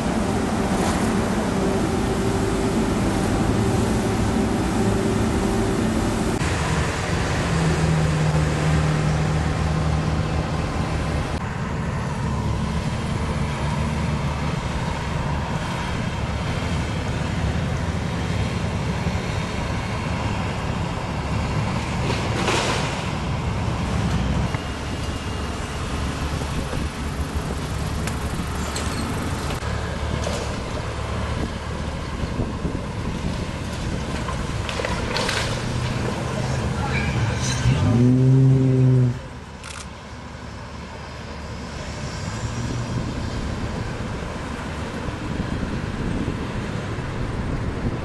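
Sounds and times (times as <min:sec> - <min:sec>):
excavator engine running: 0:00.0 - 0:22.5, 0:23.1 - 0:42.1.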